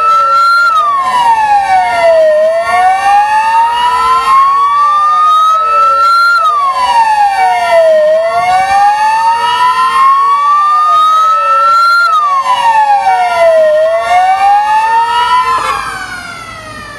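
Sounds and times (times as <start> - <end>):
fire engine sirens wailing: 0.0 - 16.9.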